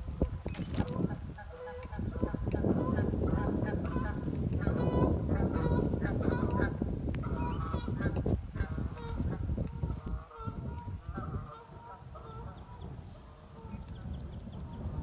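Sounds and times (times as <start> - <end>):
geese honking: 0.0 - 13.8.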